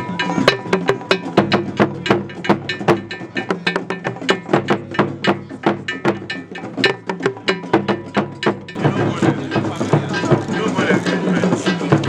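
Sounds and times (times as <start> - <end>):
woody clicking percussion beat: 0.0 - 12.0.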